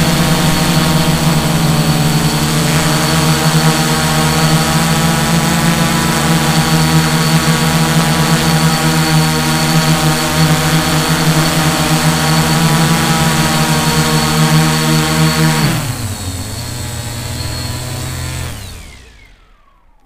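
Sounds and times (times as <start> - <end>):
drone motors and propellers: 0.0 - 20.0.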